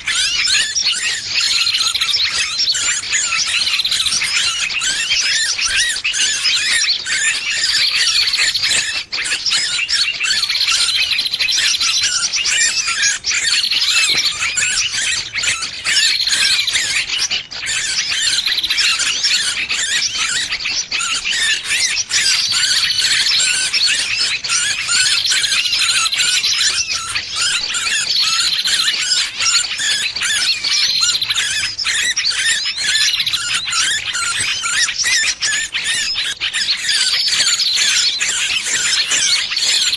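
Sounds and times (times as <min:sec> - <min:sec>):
small bird distress cries: 0:00.0 - 0:39.9.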